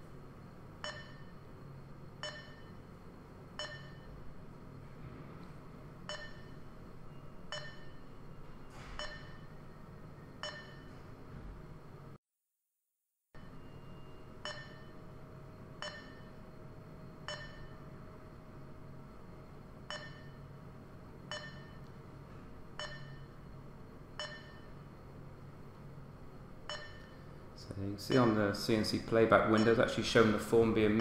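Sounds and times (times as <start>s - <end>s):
low machine hum: 0.0s - 12.2s, 13.3s - 31.0s.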